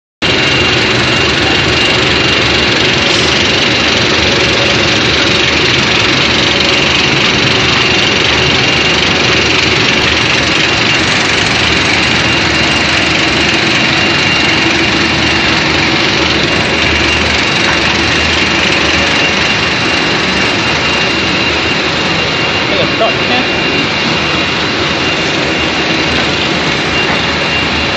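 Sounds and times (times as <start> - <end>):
high-pitched whine: 0.2 - 27.9
machine drone: 0.2 - 27.9.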